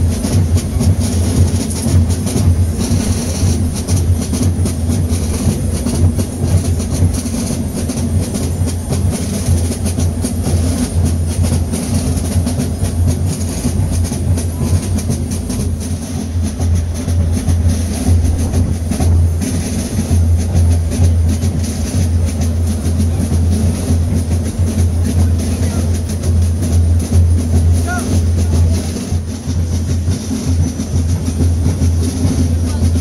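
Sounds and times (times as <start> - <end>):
snare drums drumming fast rhythm: 0.0 - 33.0.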